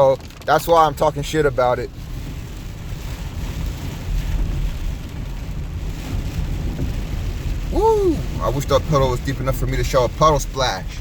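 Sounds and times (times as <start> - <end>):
rain hissing: 0.0 - 11.0
truck engine and tyres rumbling: 0.0 - 11.0.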